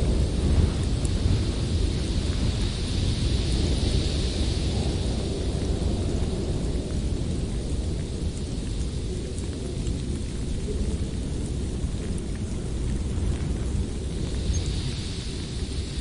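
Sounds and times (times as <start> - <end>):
blizzard wind rushing: 0.0 - 16.0.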